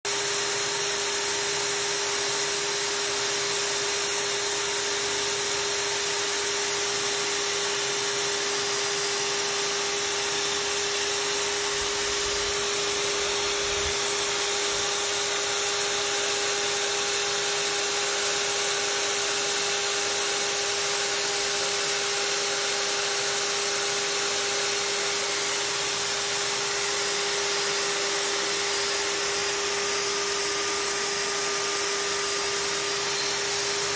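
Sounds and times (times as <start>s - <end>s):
core drill motor whine: 0.1s - 33.9s.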